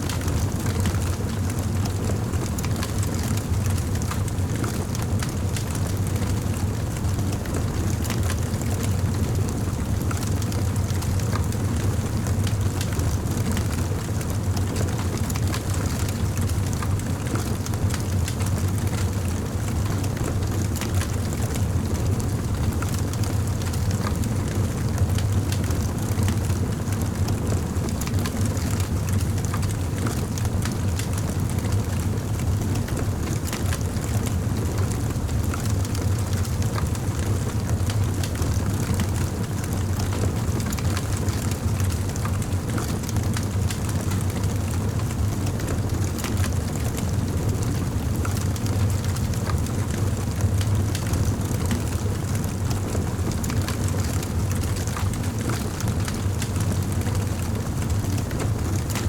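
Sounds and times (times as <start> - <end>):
low fire rumble: 0.1 - 59.0.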